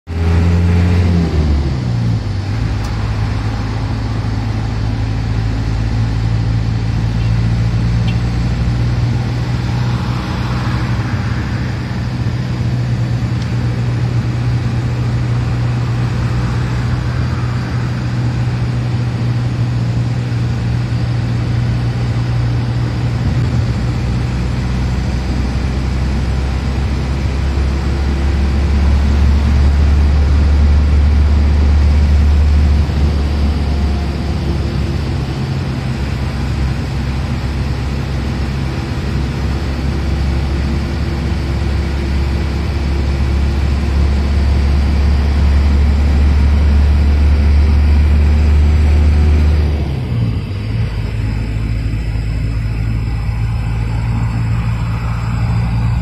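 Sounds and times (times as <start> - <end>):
car engine hum: 0.0 - 56.0
road noise: 0.0 - 56.0
rush of noise passing: 0.1 - 56.0.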